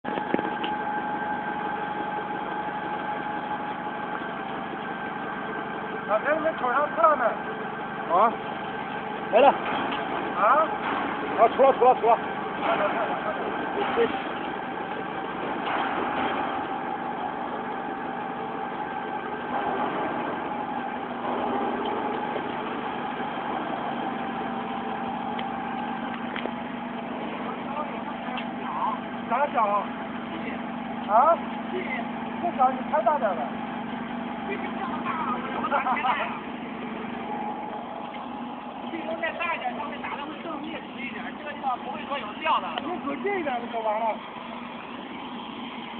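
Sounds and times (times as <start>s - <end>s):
machine whine: 0.0s - 45.9s.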